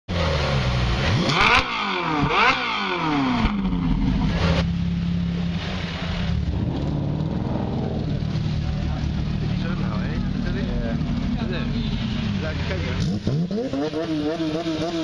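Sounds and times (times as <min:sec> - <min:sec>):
sports car engine revving: 0:00.1 - 0:15.0.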